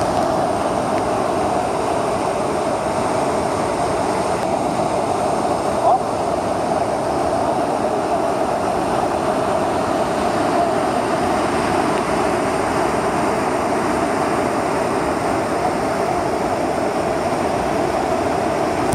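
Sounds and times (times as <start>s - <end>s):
stream rushing over rocks: 0.0s - 18.9s.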